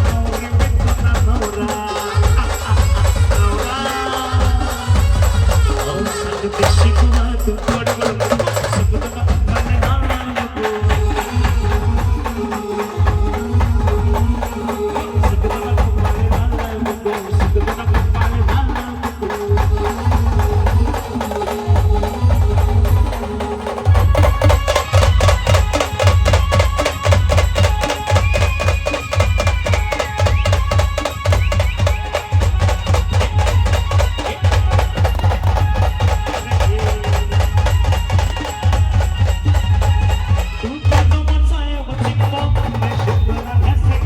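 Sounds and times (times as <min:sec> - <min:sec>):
band playing held melody notes: 0:00.0 - 0:44.0
fast percussion run: 0:00.0 - 0:44.0
heavy drum beats: 0:00.0 - 0:44.0.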